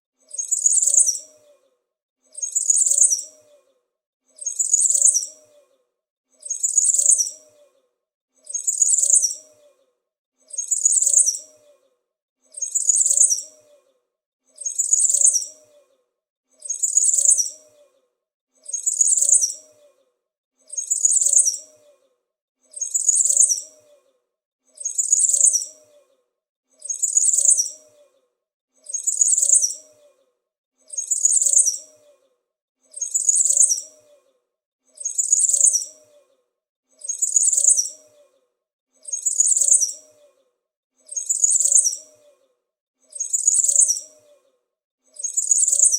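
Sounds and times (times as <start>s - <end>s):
small bird chirping: 0.2s - 5.8s, 6.4s - 18.0s, 18.6s - 22.1s, 22.7s - 24.1s, 24.7s - 26.2s, 26.8s - 28.2s, 28.8s - 32.3s, 32.9s - 36.4s, 37.0s - 38.4s, 39.0s - 45.9s.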